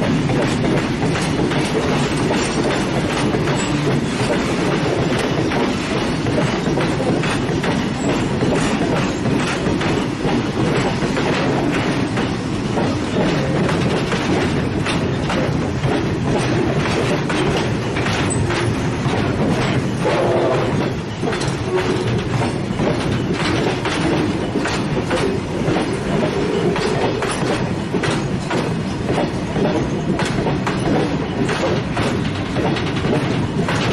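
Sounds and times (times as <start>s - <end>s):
train wheels clattering over joints: 0.0s - 33.9s.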